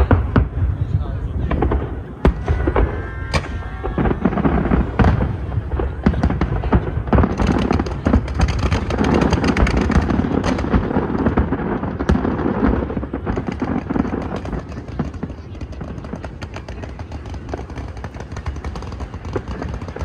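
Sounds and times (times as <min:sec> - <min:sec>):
fireworks crackling: 0:00.0 - 0:20.0
fireworks shells booming: 0:00.0 - 0:20.0.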